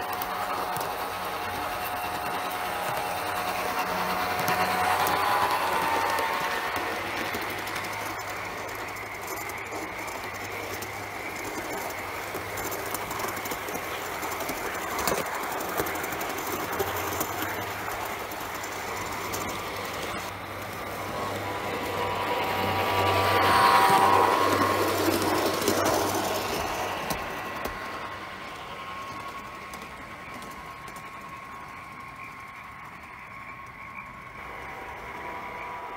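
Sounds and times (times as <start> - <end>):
model train wheels on rails: 0.0 - 35.9.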